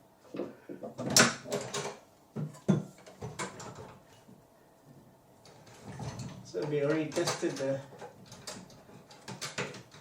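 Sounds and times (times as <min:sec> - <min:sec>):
hardware knocks and clicks: 0:00.4 - 0:04.1, 0:05.4 - 0:10.0.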